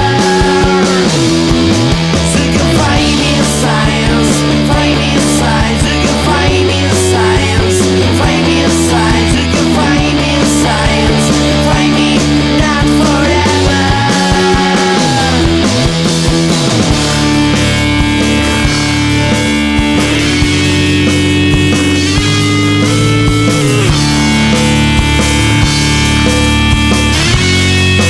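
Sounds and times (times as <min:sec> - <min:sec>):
bass: 0:00.0 - 0:28.0
drums with cymbal hits: 0:00.0 - 0:28.0
guitar chords: 0:00.0 - 0:28.0
keyboard chords: 0:00.0 - 0:28.0.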